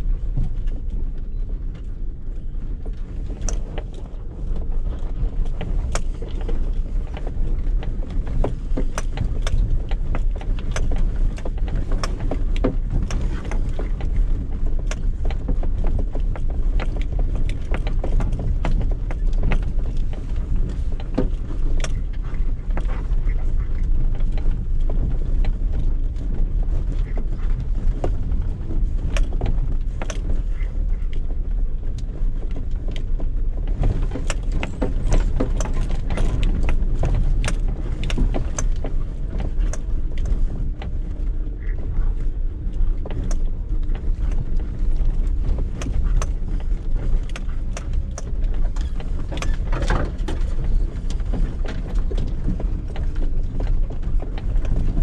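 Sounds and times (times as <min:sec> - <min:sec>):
car engine rumble: 0:00.0 - 0:55.0
car body knocks and rattles: 0:02.9 - 0:55.0.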